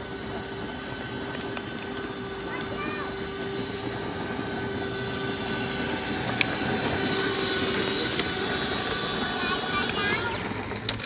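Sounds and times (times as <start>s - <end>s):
plastic wheels rumbling on asphalt: 0.0s - 11.0s
toy car electric motor whining: 0.0s - 11.0s.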